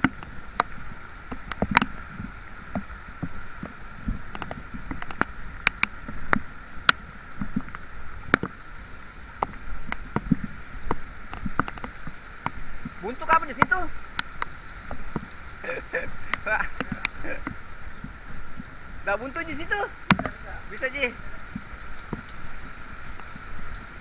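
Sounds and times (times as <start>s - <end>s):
water taps and splashes: 0.0s - 8.6s, 9.3s - 24.0s.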